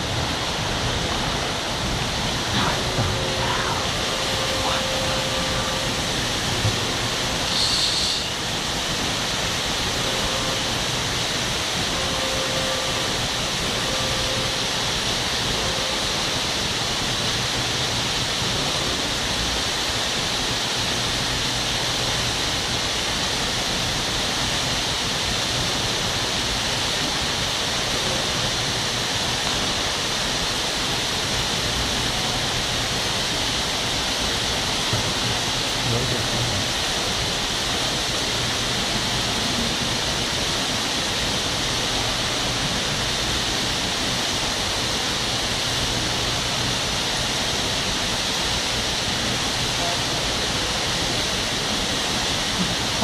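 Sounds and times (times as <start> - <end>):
fountain water splashing: 0.0 - 53.0.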